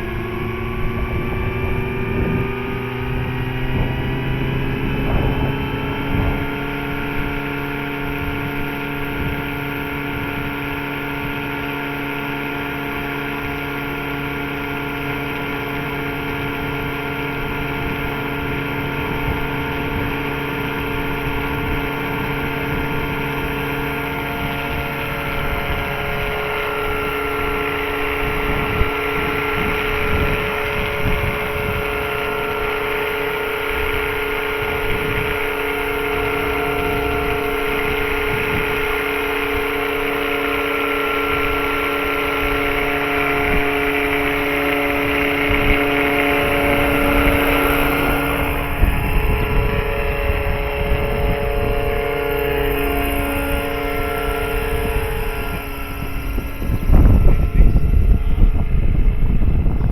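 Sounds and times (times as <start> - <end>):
model helicopter rotor whine: 0.0 - 59.9
wind buffeting microphone: 0.0 - 59.9.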